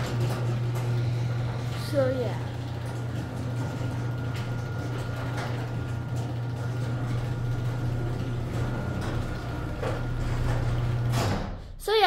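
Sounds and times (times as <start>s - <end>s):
garage door opener motor humming: 0.0s - 11.8s.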